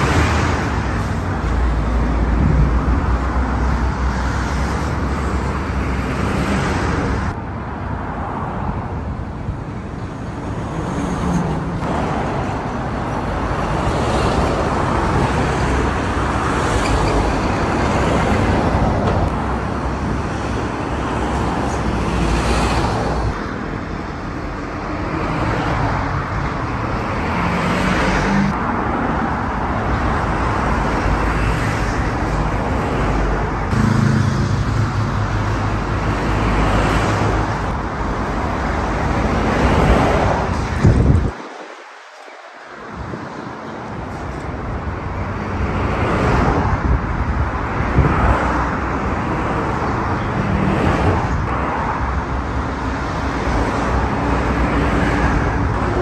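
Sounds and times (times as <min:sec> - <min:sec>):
truck diesel engines: 0:00.0 - 0:56.0
tyre and road noise: 0:00.0 - 0:56.0.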